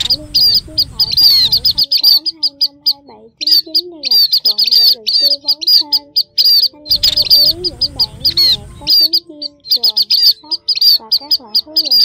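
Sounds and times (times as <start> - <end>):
high thin bird chirps: 0.0 - 12.0
lower pitch-bending bird calls: 0.0 - 12.0.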